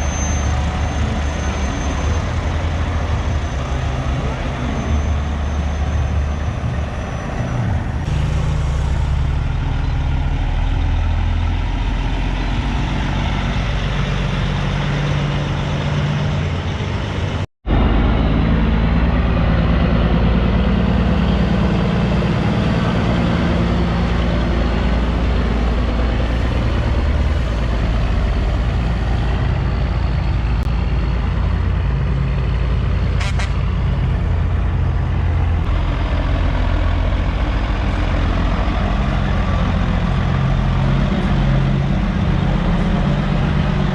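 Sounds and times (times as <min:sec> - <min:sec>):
diesel truck engines rumbling: 0:00.0 - 0:43.9.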